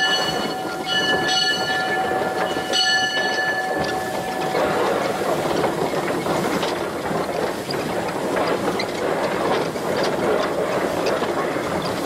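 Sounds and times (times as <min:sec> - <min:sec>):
steam locomotive rumbling: 0:00.0 - 0:12.0
wheels clanking on track: 0:00.0 - 0:12.0.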